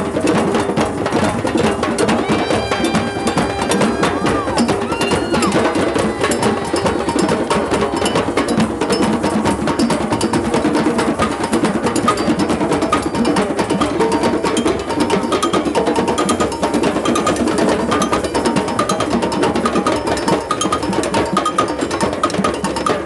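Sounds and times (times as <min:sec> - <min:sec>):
hand drums beating: 0:00.0 - 0:23.0.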